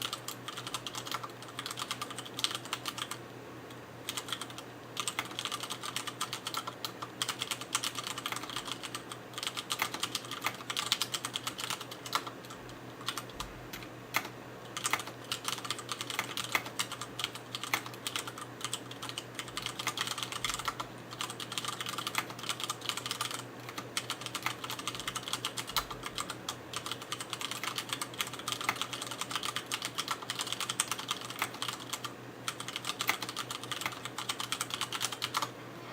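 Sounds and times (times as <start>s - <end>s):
fast typing on mechanical keyboard: 0.0s - 3.2s, 4.1s - 35.5s.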